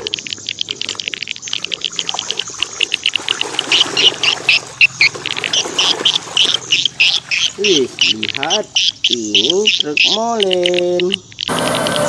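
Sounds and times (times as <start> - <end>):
high chirping calls: 0.0 - 12.0
water pouring and trickling: 0.0 - 12.0.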